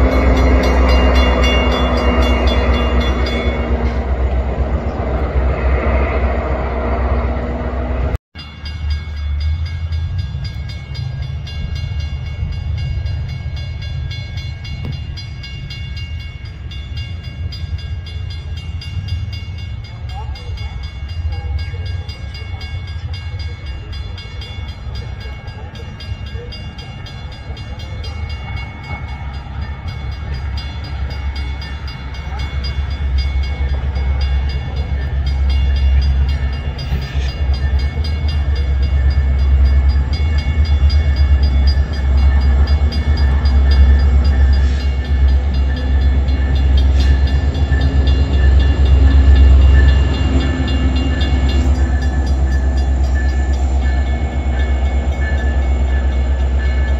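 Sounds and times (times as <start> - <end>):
diesel train engine and wheel rumble: 0.0 - 56.9.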